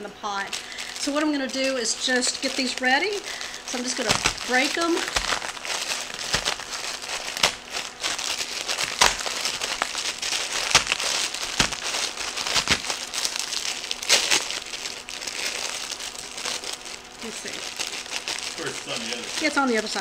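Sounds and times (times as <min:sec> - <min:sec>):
plastic packets crinkling: 0:00.3 - 0:20.0
dry noodles snapping: 0:00.6 - 0:20.0.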